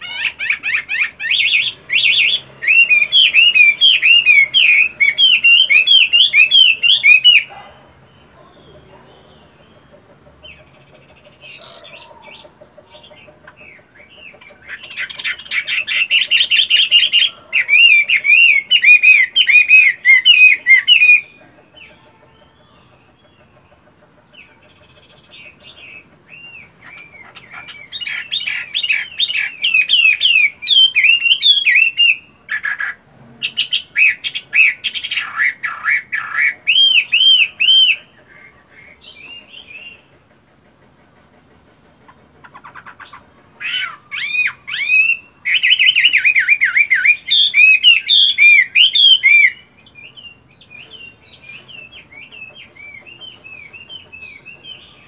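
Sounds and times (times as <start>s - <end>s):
bird singing whistled notes: 0.0s - 24.1s, 24.9s - 40.1s, 42.7s - 55.0s.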